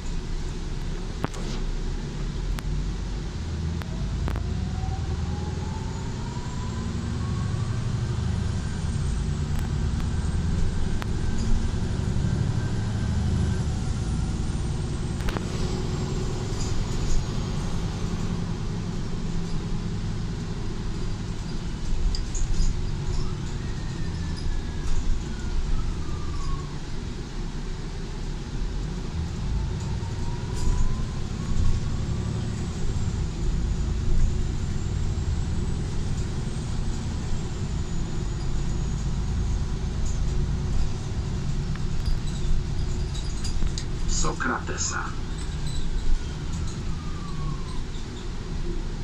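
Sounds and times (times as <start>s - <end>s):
bus diesel and road rumble: 0.0s - 49.0s
drivetrain whine: 0.0s - 49.0s.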